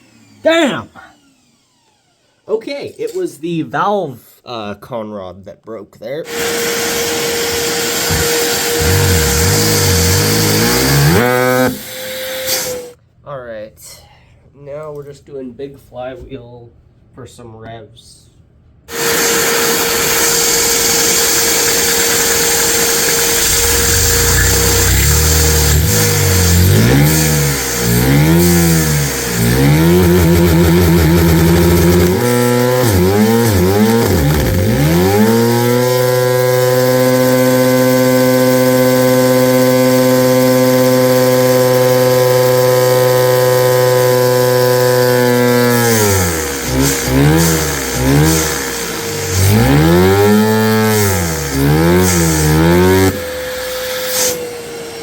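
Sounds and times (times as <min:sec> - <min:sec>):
vacuum engine revving high: 0:00.0 - 0:02.4, 0:06.3 - 0:13.0, 0:18.9 - 0:55.0.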